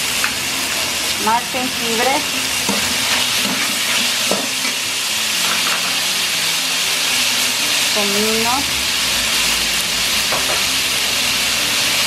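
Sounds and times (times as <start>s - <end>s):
pork sizzling in hot oil: 0.0s - 12.0s.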